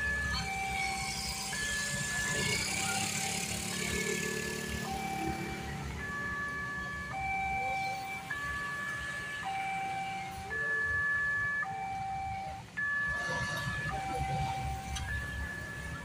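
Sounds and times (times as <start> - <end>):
two-tone warning siren: 0.0 - 16.0.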